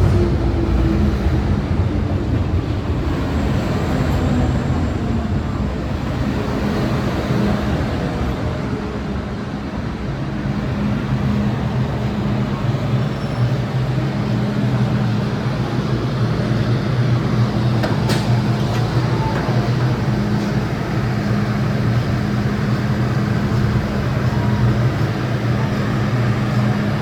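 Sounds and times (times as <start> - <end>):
train motors humming: 0.0 - 27.0
train wheels rumbling on rails: 0.0 - 27.0.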